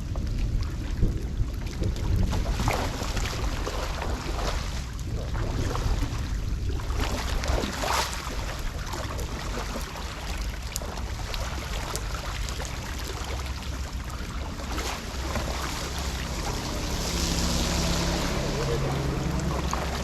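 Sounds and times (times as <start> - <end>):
wind rumble on microphone: 0.0 - 20.0
floodwater rushing: 2.3 - 20.0.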